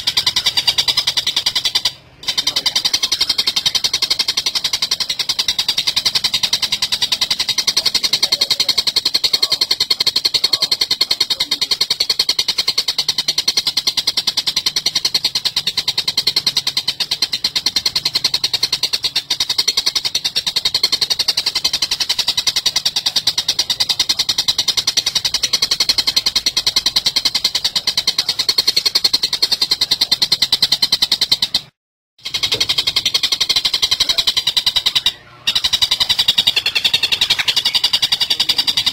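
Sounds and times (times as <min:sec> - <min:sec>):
bird chattering call: 0:00.0 - 0:38.9.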